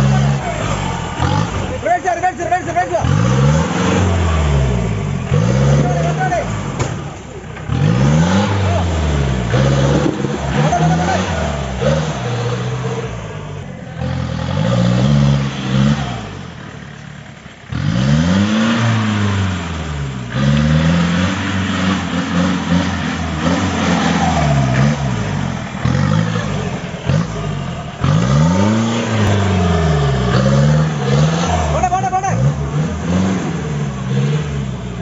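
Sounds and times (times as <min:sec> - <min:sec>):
jeep engine revving hard: 0:00.0 - 0:35.0.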